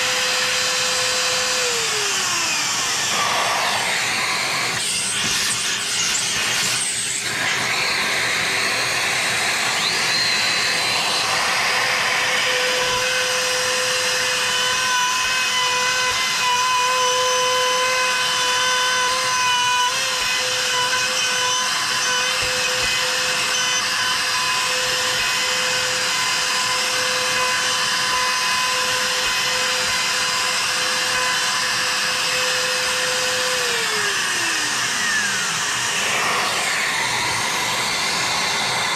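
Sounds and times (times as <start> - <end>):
router motor whining: 0.0 - 38.9.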